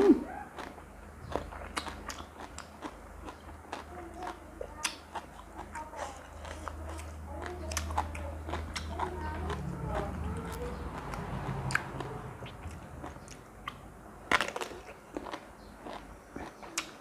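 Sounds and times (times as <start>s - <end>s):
person chewing crunchy food: 0.4s - 17.0s.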